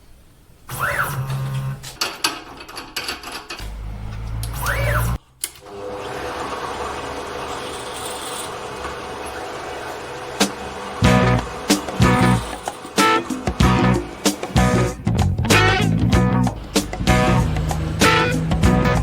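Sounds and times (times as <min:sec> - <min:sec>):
stepper motors whining: 0:00.7 - 0:02.0, 0:03.6 - 0:19.0
machine running noise: 0:03.6 - 0:19.0.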